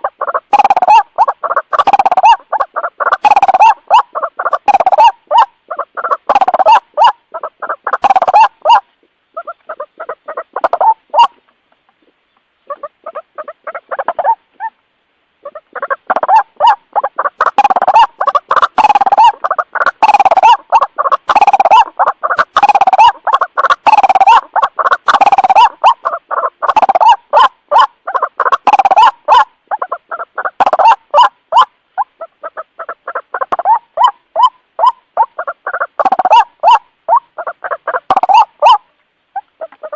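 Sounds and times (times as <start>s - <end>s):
waterhen croaking calls: 0.0s - 39.9s.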